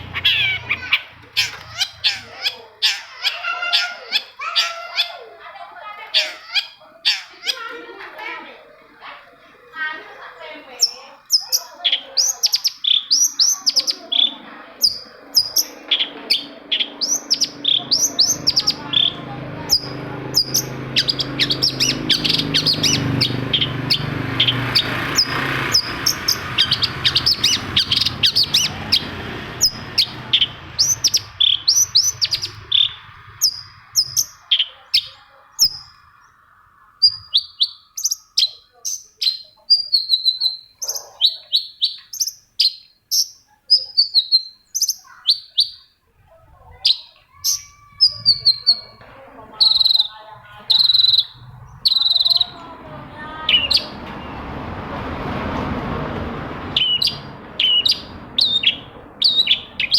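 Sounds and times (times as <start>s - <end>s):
bird chirping and trilling: 0.0s - 8.3s, 9.2s - 46.0s, 46.6s - 54.6s, 56.6s - 59.9s.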